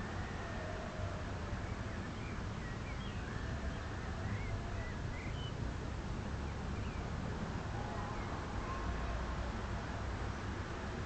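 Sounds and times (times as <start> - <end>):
distant city rumble: 0.0 - 11.0.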